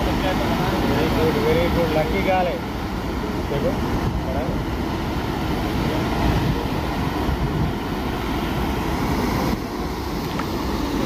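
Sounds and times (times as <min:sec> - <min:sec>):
steady low rumbling: 0:00.0 - 0:11.0.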